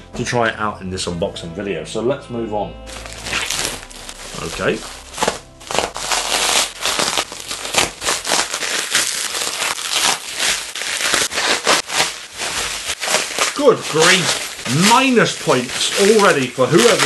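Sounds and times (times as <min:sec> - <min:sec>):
plastic crinkling: 0:02.9 - 0:17.0.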